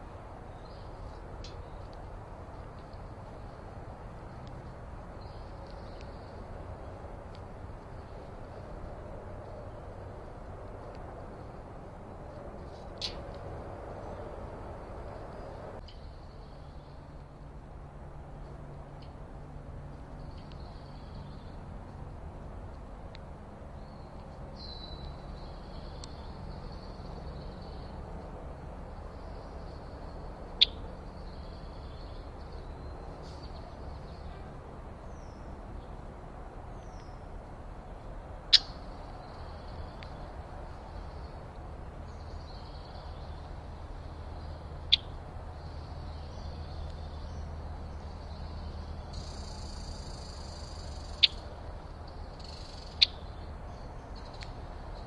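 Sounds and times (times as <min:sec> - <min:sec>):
birds chirping: 0:00.0 - 0:17.3, 0:19.9 - 0:21.7, 0:23.7 - 0:55.0.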